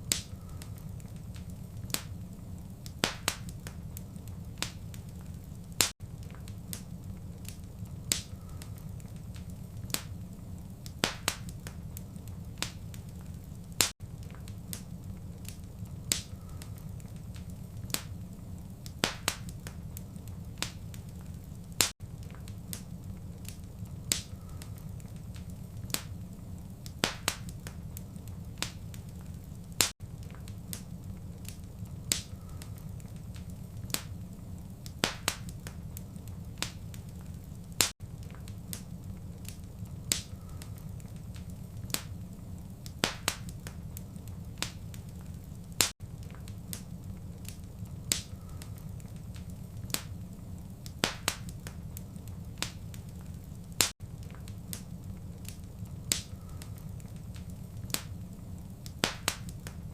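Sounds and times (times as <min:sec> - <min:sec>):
fireplace fire crackling: 0:00.0 - 0:59.9
low rumble of flame: 0:00.0 - 0:59.9.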